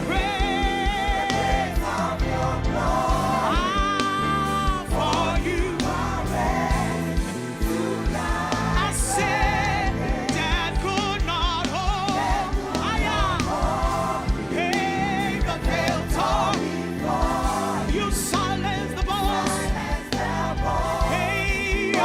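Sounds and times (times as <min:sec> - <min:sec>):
band with bass and drums: 0:00.0 - 0:22.0.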